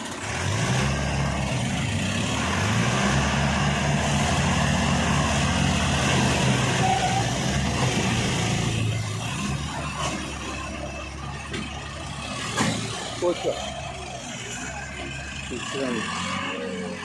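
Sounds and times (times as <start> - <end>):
tractor diesel engine revving: 0.0 - 17.0.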